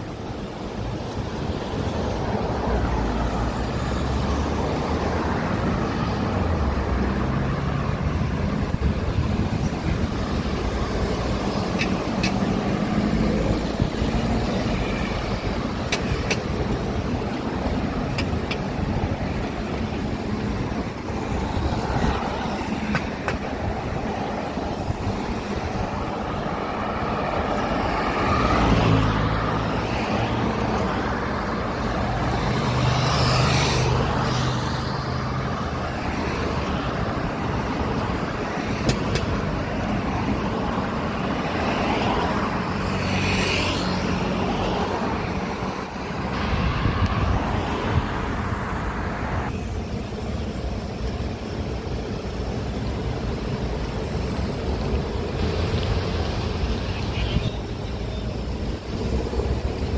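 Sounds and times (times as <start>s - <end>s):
passing cars: 0.0s - 59.9s.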